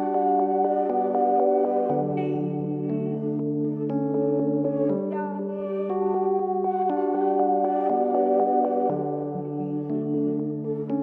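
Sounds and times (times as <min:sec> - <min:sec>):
soft synthesizer chords: 0:00.0 - 0:11.0.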